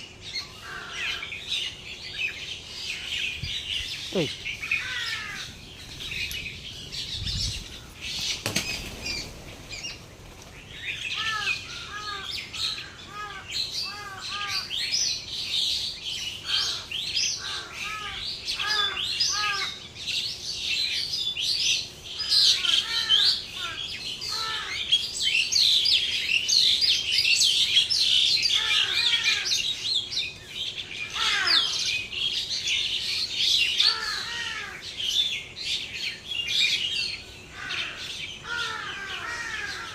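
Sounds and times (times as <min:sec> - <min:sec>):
small birds chirping chorus: 0:00.0 - 0:39.9.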